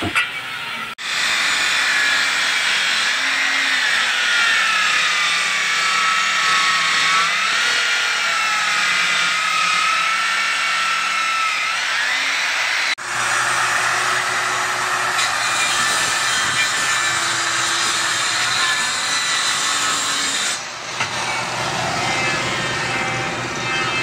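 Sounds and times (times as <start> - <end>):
circular saw cutting wood: 0.0 - 24.0.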